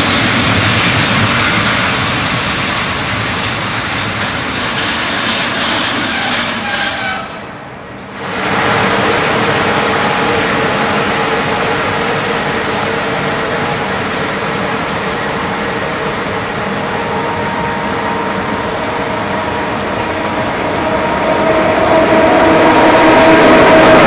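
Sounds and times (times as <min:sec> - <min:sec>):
electric locomotive hum: 0:00.0 - 0:24.0
train coaches rumbling past: 0:00.0 - 0:24.0.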